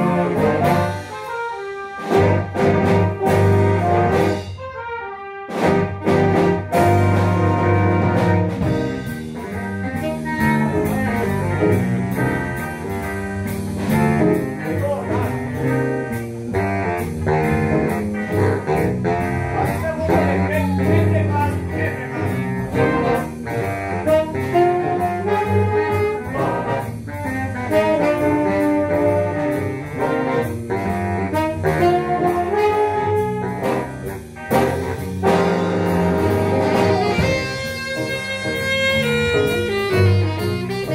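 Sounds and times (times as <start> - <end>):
jazz big band playing: 0.0 - 40.9
saxophones and brass: 0.0 - 40.9.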